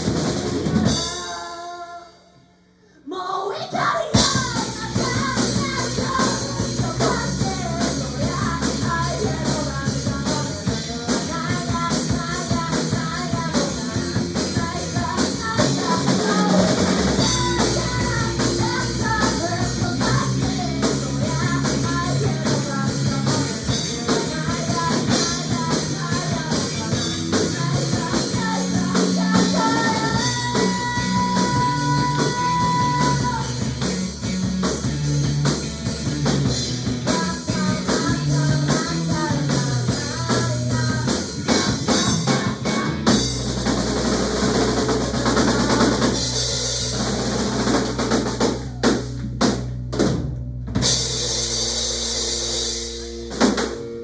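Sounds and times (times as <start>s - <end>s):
rock music: 0.0s - 2.5s, 4.1s - 54.0s.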